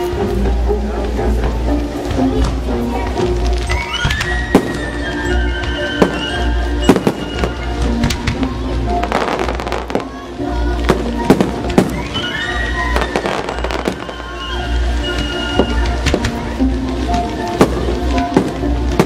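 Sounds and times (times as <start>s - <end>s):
fireworks crackling: 0.0s - 19.0s
loud music: 0.0s - 19.0s
fireworks bangs: 1.3s - 19.0s.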